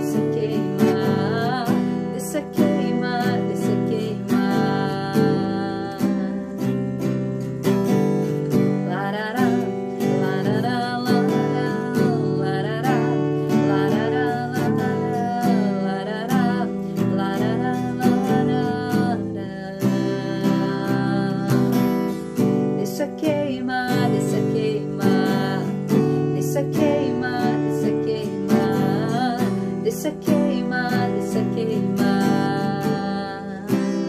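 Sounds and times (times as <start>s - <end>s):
acoustic guitar strumming: 0.0s - 34.0s
woman singing: 0.0s - 34.0s.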